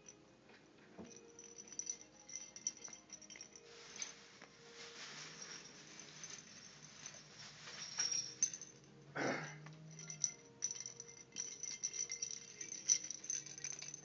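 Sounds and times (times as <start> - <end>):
toy ball bells jingling: 1.0 - 14.0.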